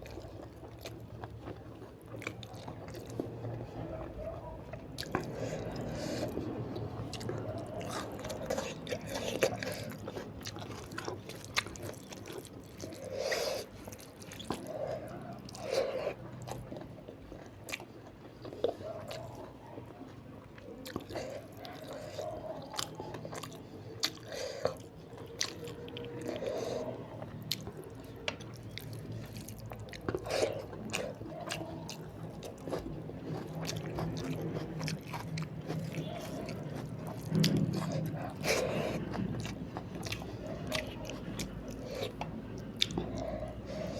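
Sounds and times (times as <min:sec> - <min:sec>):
wet chewing: 0:00.0 - 0:43.9.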